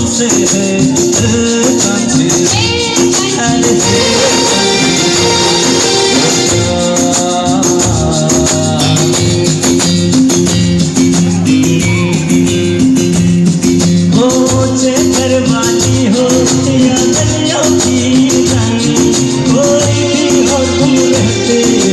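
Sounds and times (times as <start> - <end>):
man singing: 0.0 - 13.0, 13.6 - 21.9
fast percussion: 0.0 - 21.9
live music with steady beat: 0.0 - 21.9.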